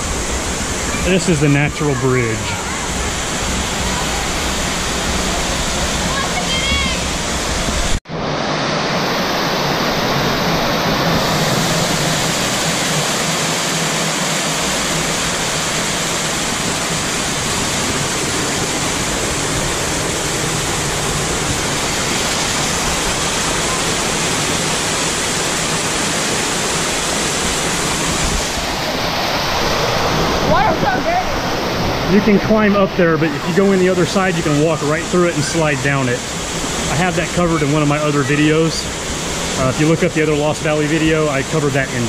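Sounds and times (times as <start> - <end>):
waterfall rushing over rock: 0.0 - 42.0.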